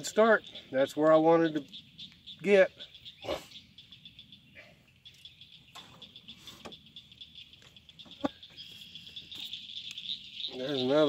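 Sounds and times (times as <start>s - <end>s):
insect chorus chirring: 0.0s - 11.0s.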